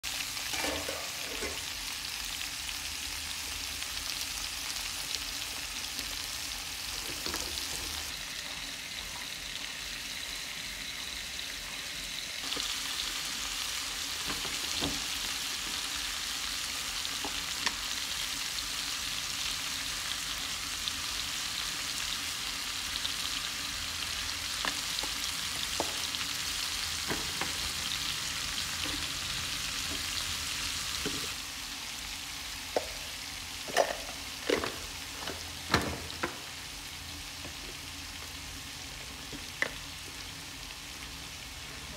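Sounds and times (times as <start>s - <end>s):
food sizzling in a pan: 0.0s - 41.9s.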